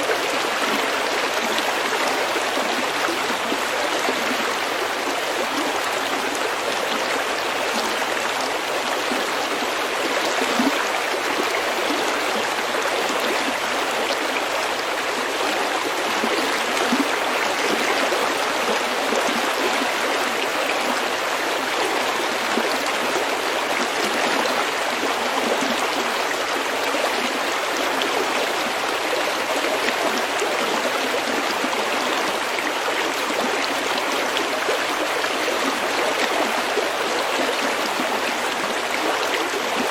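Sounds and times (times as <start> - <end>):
stream babbling over pebbles: 0.0 - 39.9.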